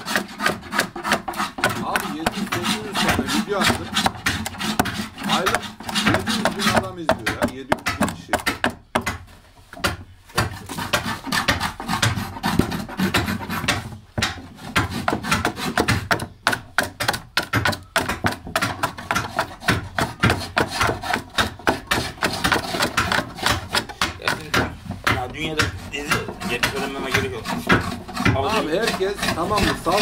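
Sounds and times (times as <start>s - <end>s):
adze chopping wood: 0.0s - 30.0s.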